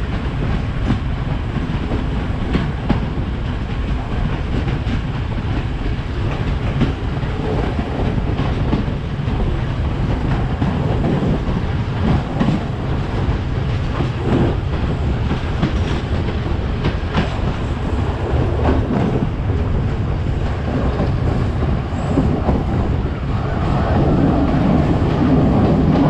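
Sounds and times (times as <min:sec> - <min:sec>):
train rumbling: 0:00.0 - 0:26.0
train wheels clacking: 0:00.0 - 0:26.0.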